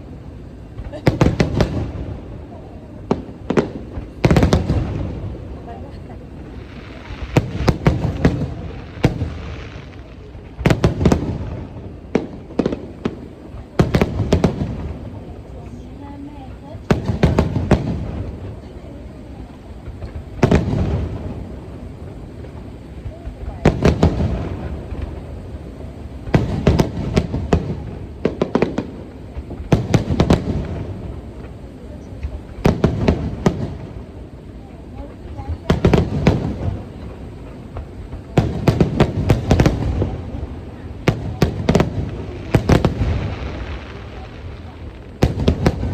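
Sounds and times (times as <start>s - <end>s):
fireworks bursting in sharp bangs: 0.0s - 45.9s.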